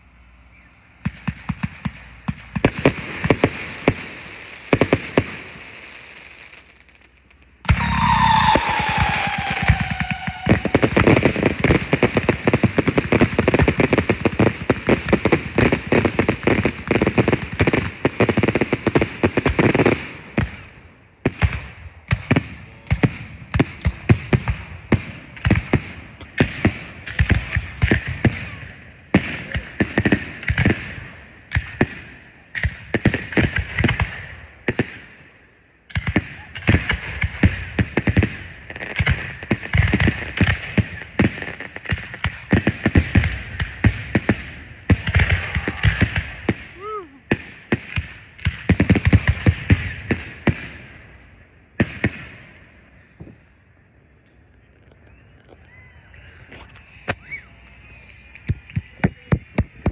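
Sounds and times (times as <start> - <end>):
fireworks crackling bangs: 1.0 - 53.4, 56.5 - 59.9.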